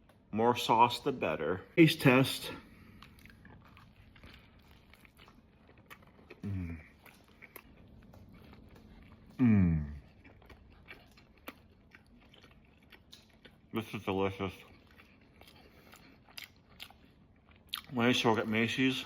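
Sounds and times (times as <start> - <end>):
person chewing food: 2.4 - 18.9.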